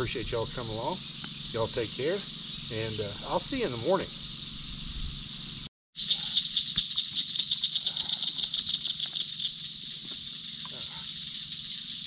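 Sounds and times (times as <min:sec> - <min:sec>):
animals calling in pulsing trill: 0:00.0 - 0:12.0.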